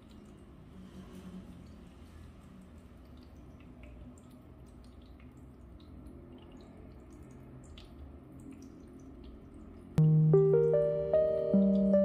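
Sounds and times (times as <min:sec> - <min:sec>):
water drips pattering: 0:00.0 - 0:00.8, 0:01.5 - 0:12.0
low steady hum: 0:01.6 - 0:12.0.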